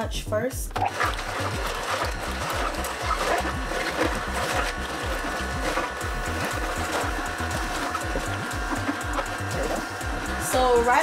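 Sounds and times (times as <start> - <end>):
juicer running: 0.5 - 11.0.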